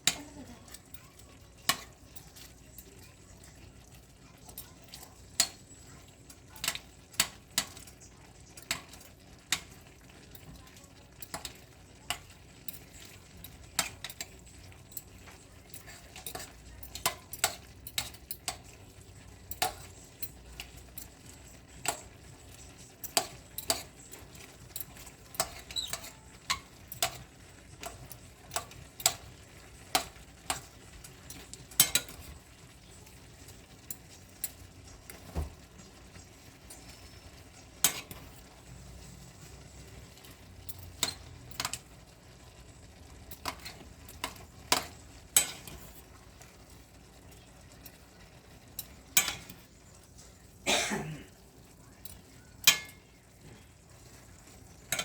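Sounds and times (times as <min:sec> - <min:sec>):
utensil clacking against a pan: 0:00.0 - 0:50.4, 0:51.3 - 0:55.0
frying sizzle: 0:00.0 - 0:55.0.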